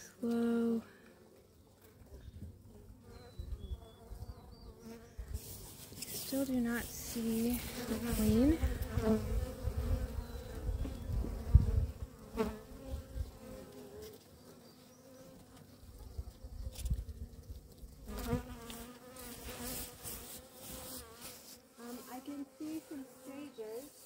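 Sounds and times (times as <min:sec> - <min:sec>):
honey bees buzzing: 0:02.6 - 0:24.0.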